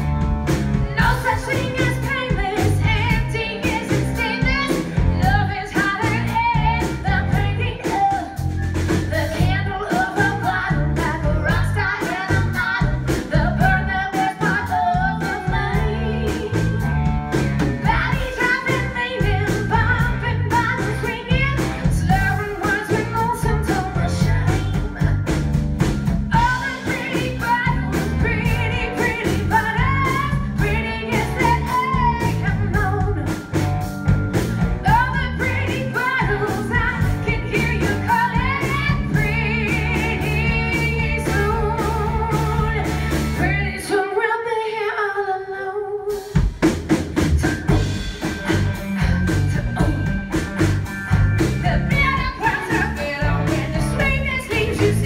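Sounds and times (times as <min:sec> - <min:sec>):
rock band playing: 0:00.0 - 0:44.0, 0:46.1 - 0:55.0
woman singing: 0:01.0 - 0:16.9, 0:17.8 - 0:25.4, 0:26.3 - 0:33.5, 0:34.8 - 0:46.4, 0:48.8 - 0:50.3, 0:51.1 - 0:55.0.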